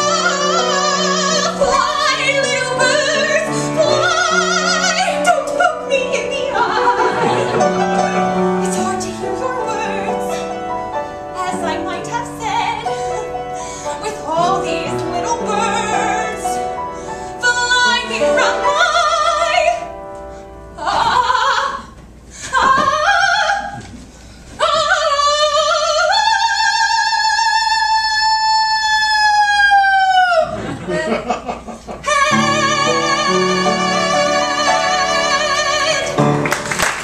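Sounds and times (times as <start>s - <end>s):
woman singing opera: 0.0s - 19.9s, 20.8s - 23.9s, 24.6s - 30.6s, 32.0s - 36.5s.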